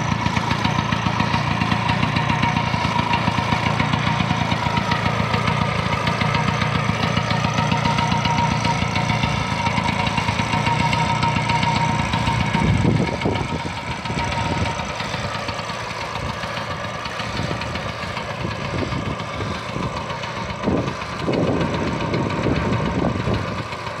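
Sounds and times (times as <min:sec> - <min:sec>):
scooter engine idling: 0:00.0 - 0:24.0.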